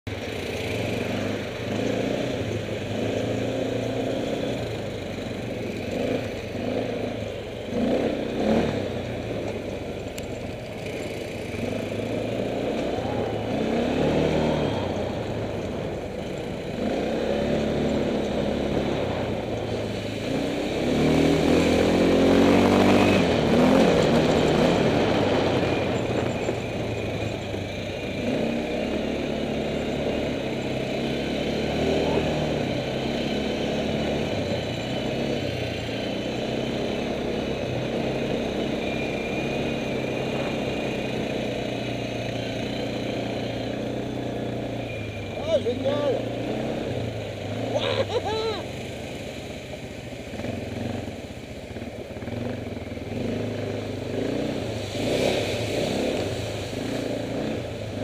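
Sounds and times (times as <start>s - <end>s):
quad bike engine running: 0.1s - 58.0s.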